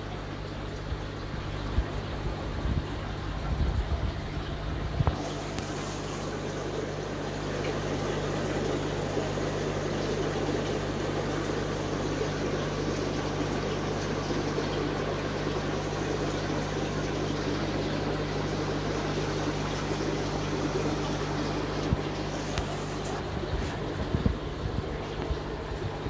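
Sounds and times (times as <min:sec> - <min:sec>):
aquarium filter bubbling: 0:00.0 - 0:26.0
steady low hum: 0:00.0 - 0:26.0.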